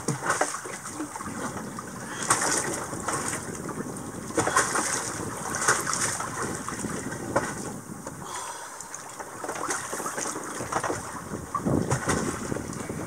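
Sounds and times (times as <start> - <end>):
water sloshing against boat hull: 0.0 - 13.0.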